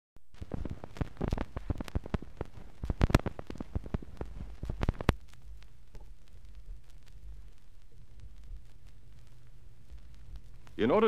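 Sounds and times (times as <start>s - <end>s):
low rumble and hiss: 0.2s - 11.0s
record crackles and pops: 0.2s - 11.0s.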